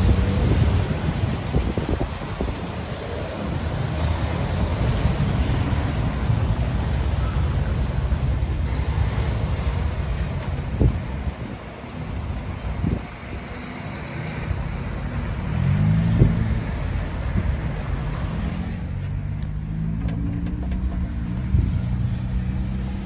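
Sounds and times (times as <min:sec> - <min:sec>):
tyres hissing on wet road: 0:00.0 - 0:19.8, 0:21.4 - 0:23.0
engine rumble: 0:00.0 - 0:23.0
truck engine: 0:00.0 - 0:23.0.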